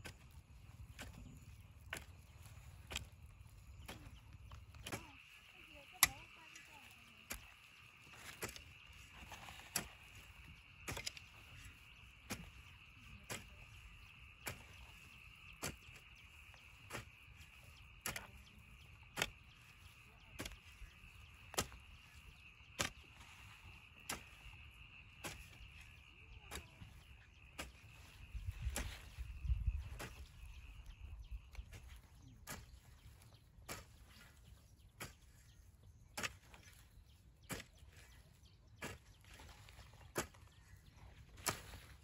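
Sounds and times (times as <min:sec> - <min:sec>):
hoe chopping into dry soil: 0:00.0 - 0:05.4, 0:06.0 - 0:42.0.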